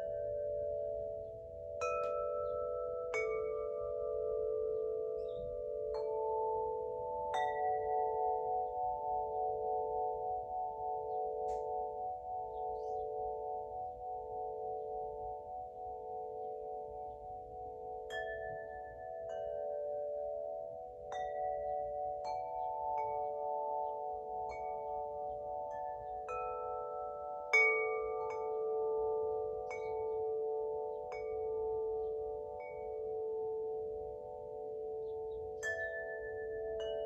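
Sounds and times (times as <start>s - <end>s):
wind chimes ringing: 0.0s - 37.0s.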